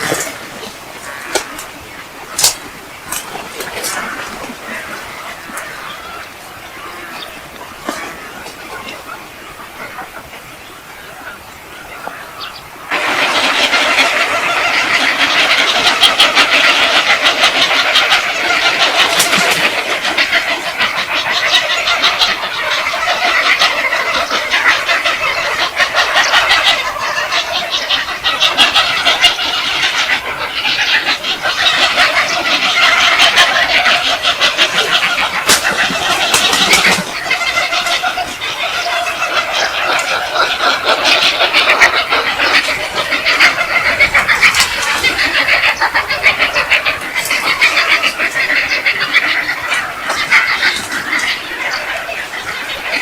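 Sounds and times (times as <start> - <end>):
flock of birds squawking: 0.0 - 53.0.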